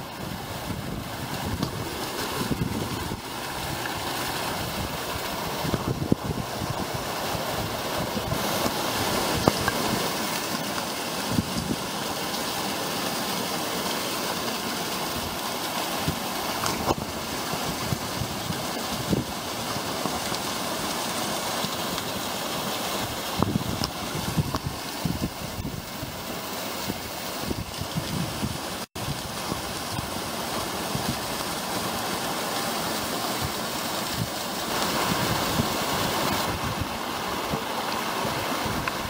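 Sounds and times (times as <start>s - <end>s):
stream rushing over boulders: 0.0s - 39.0s.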